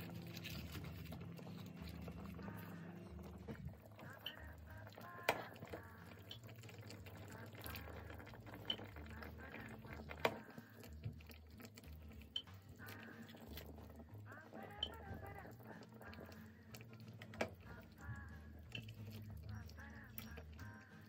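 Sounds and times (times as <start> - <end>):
broth sloshing: 0.0 - 21.0.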